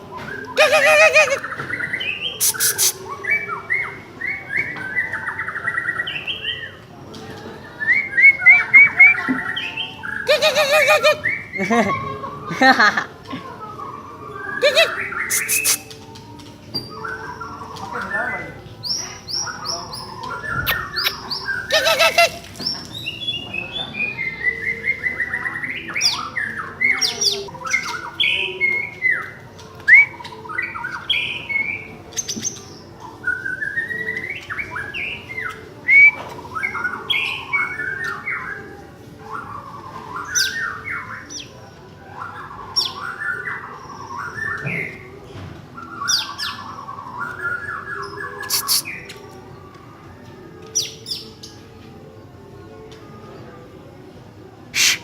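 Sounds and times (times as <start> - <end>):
bird singing: 0.1 - 6.8, 7.7 - 12.9, 13.7 - 49.8.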